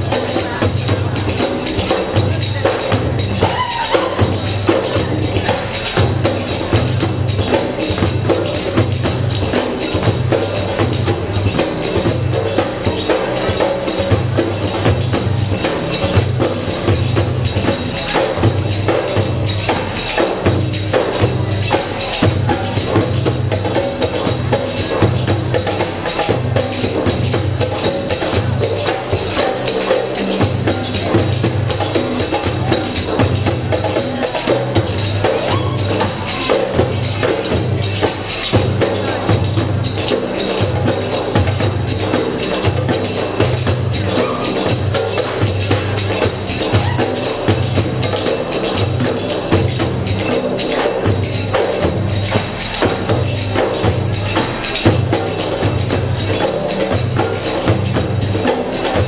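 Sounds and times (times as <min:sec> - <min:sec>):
dense percussion: 0:00.0 - 0:59.0.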